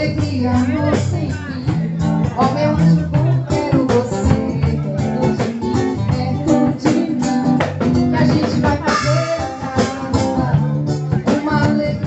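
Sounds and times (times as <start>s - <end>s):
band playing guitar and drums: 0.0s - 12.0s.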